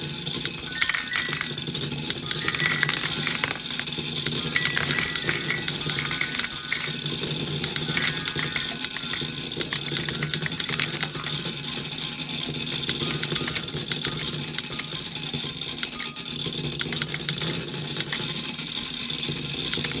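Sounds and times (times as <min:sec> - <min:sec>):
marbles rattling through marble run: 0:00.2 - 0:20.0.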